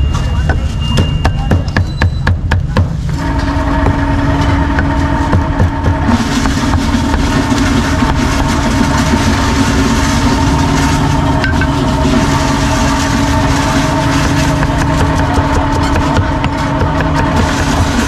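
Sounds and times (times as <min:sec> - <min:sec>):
motor drone: 0:03.1 - 0:18.0.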